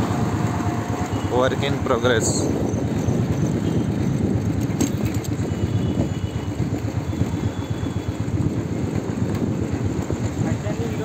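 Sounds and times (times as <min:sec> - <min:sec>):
motorbike engine: 0:00.0 - 0:11.0
wind buffeting microphone: 0:00.0 - 0:11.0.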